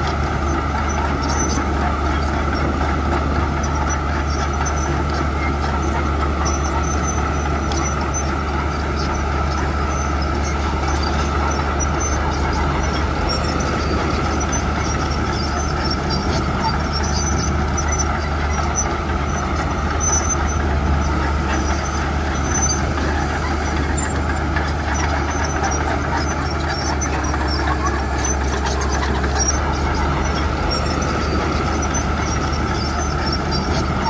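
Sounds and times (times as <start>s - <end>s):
bulldozer diesel engine under load: 0.0s - 34.0s.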